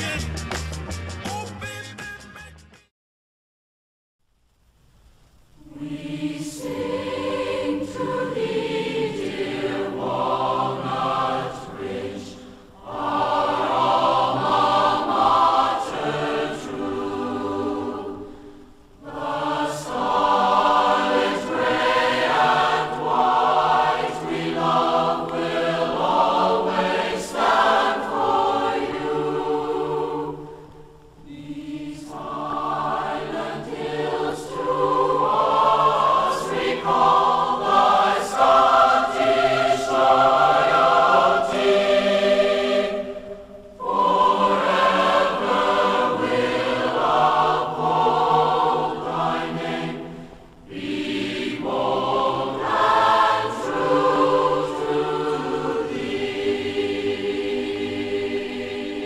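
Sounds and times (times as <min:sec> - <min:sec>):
choir singing sustained chords: 0:05.5 - 0:59.0.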